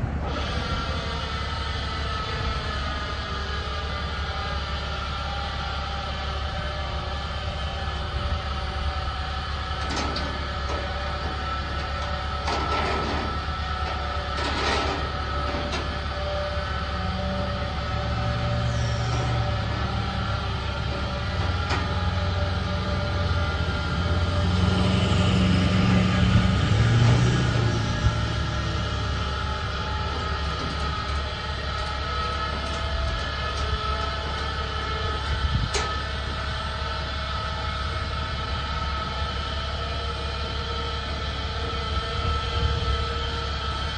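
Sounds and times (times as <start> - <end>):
large engine droning: 0.0 - 43.9.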